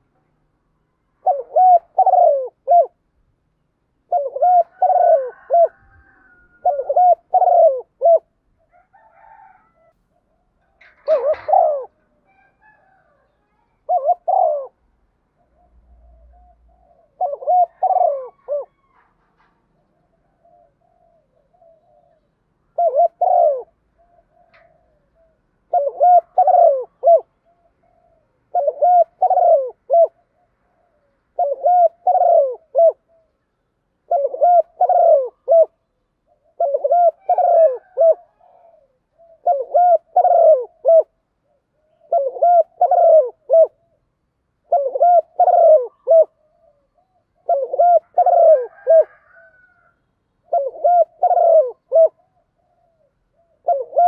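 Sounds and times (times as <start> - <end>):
dove cooing: 1.2 - 3.1, 4.0 - 54.0.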